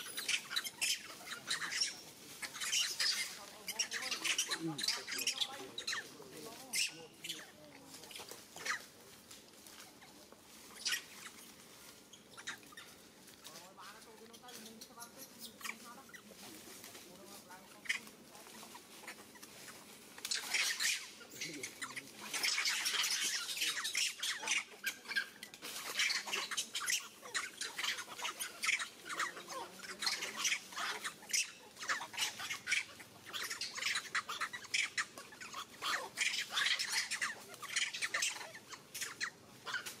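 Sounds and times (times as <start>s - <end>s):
high-pitched animal calls chattering: 0.0s - 8.9s, 10.7s - 13.0s, 14.2s - 16.4s, 17.7s - 40.0s.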